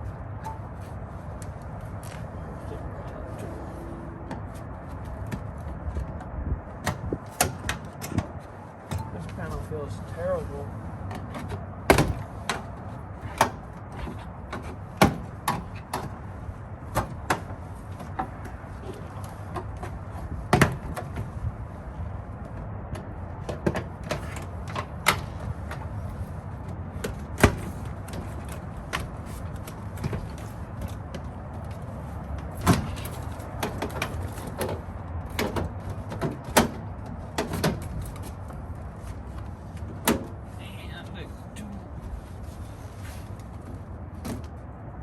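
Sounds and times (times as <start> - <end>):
low background rumble: 0.0 - 45.0.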